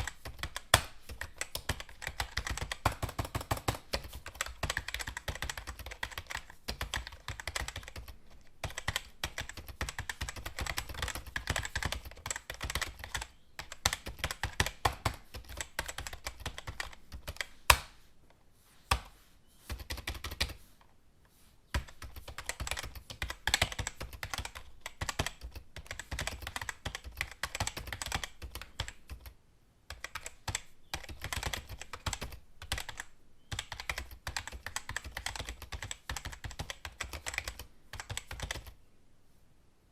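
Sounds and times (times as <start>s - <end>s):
computer keyboard typing: 0.0s - 17.8s, 19.7s - 20.6s, 21.7s - 38.8s.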